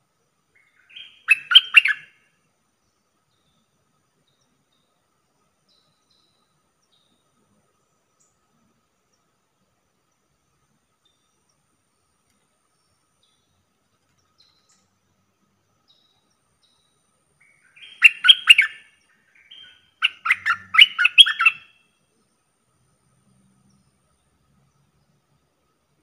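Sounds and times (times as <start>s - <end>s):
bird chirping: 0.4s - 22.1s, 22.9s - 26.0s.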